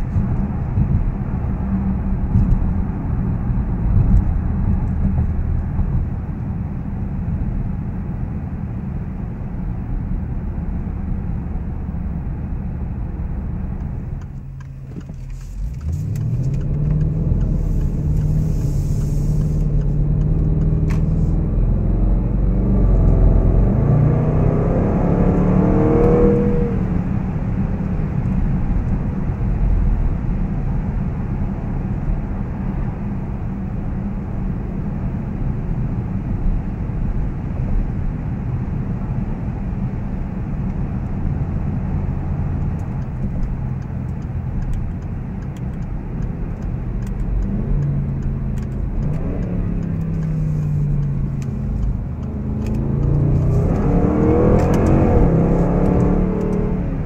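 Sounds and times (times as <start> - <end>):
car engine accelerating: 0.0 - 57.0
road noise: 0.0 - 57.0.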